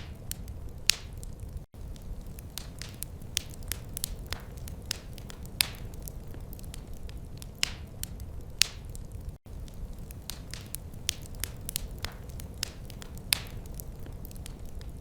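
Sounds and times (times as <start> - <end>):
low rumble of flames: 0.0 - 15.0
sharp pops from fire: 0.0 - 15.0
wood fire crackling: 0.0 - 15.0.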